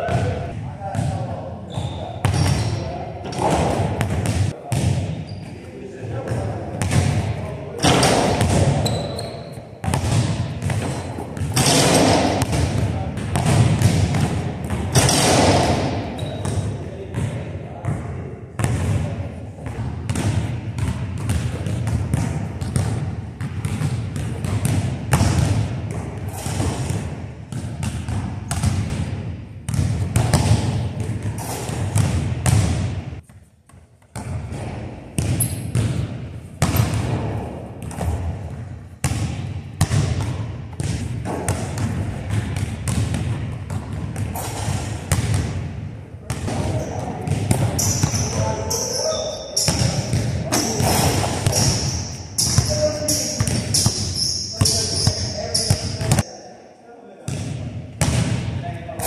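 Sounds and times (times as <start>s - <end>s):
basketball bouncing on wooden floor: 6.3s - 18.0s, 18.6s - 45.7s, 46.3s - 48.8s, 49.6s - 56.2s.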